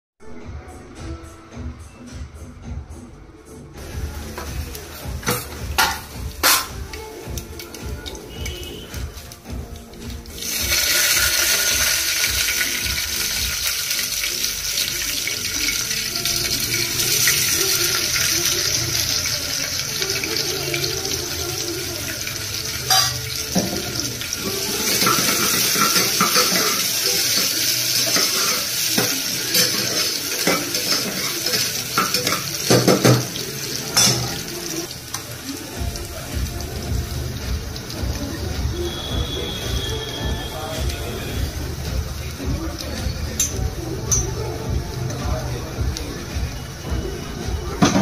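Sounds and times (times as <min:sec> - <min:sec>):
onions sizzling in hot oil: 0:03.8 - 0:48.0.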